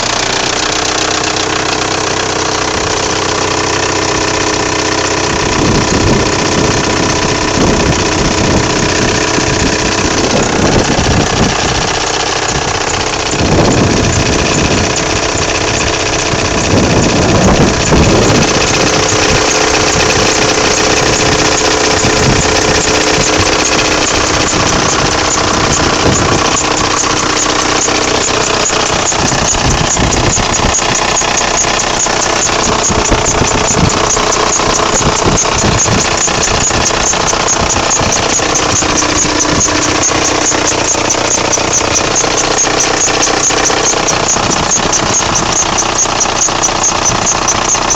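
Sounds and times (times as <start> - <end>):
car engine idling: 0.0 - 47.9
high squeal from engine bay: 0.0 - 47.9.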